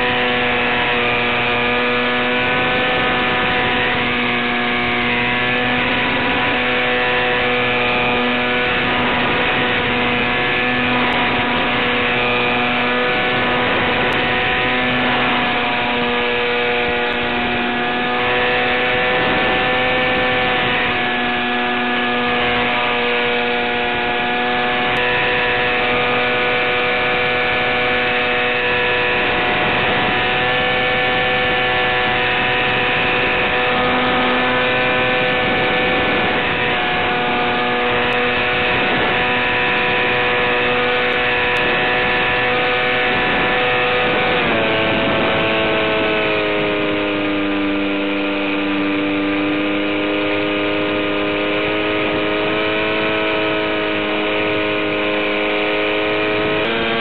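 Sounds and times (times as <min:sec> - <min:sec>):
electric motor and propeller whine: 0:00.0 - 0:57.0.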